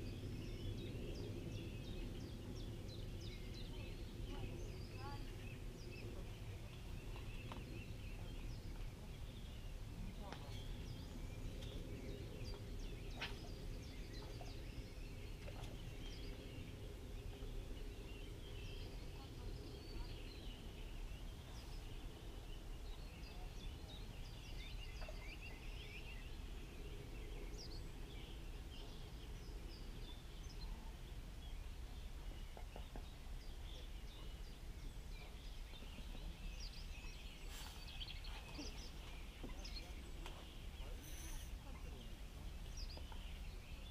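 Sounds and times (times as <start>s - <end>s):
low outdoor rumble: 0.0s - 43.9s
small birds chirping: 0.0s - 43.9s.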